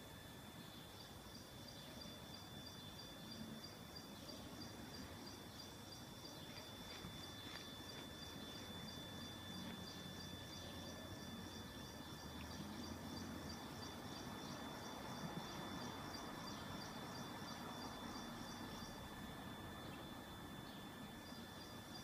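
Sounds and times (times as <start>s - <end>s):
steady high-pitched whine: 0.0s - 22.0s.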